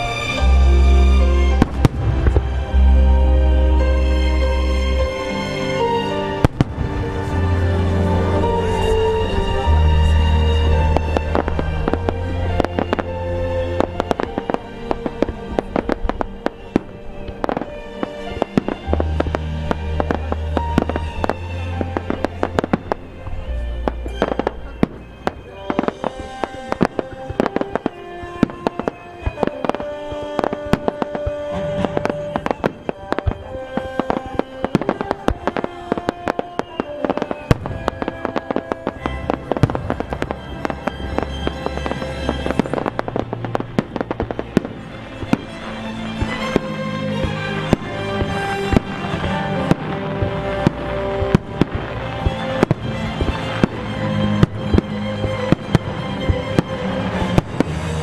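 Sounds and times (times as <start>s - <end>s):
fireworks banging and crackling: 0.0s - 58.0s.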